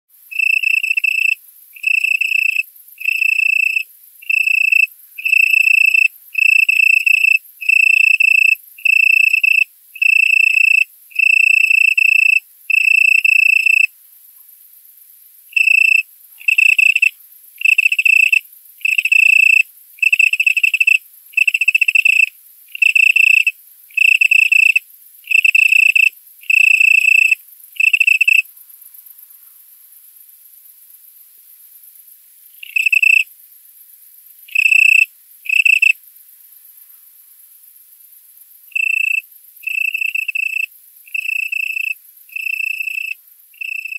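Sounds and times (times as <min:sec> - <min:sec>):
cricket trilling: 0:00.3 - 0:14.6, 0:15.5 - 0:31.2, 0:32.4 - 0:33.3, 0:34.5 - 0:43.9.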